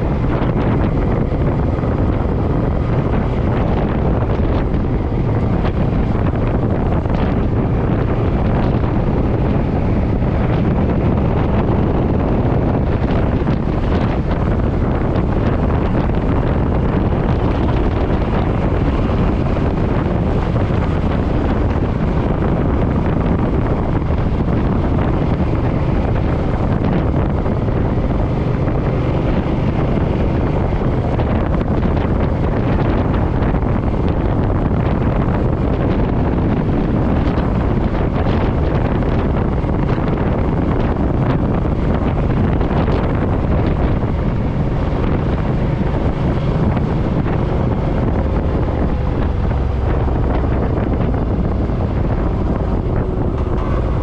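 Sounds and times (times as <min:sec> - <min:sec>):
motorcycle engine: 0:00.0 - 0:54.0
road noise: 0:00.0 - 0:54.0
wind rushing over microphone: 0:00.0 - 0:54.0.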